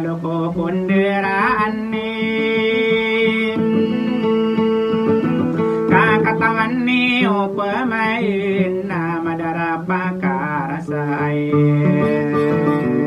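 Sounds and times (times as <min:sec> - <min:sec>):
acoustic guitar: 0:00.0 - 0:13.0
man singing slowly: 0:00.0 - 0:13.0.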